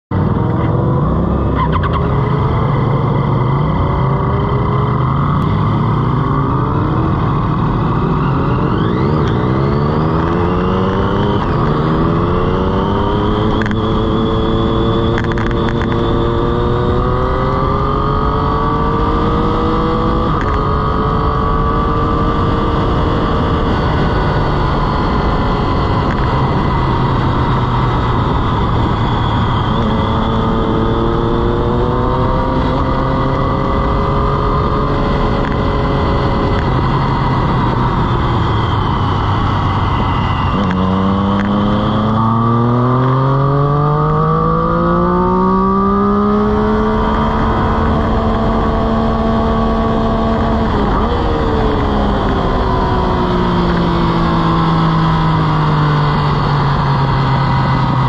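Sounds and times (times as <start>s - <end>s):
motorcycle engine revving: 0.1s - 58.0s.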